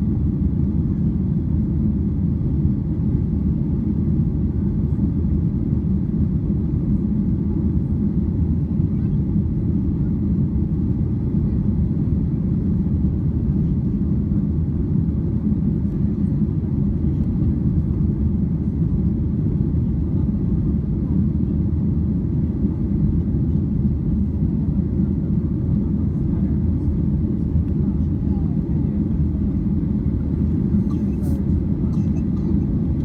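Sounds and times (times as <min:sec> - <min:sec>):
airplane engines: 0:00.0 - 0:33.0.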